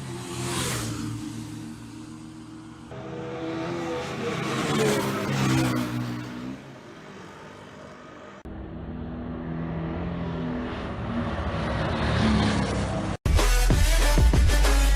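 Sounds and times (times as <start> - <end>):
motorcycle engine at speed: 0.0 - 13.2.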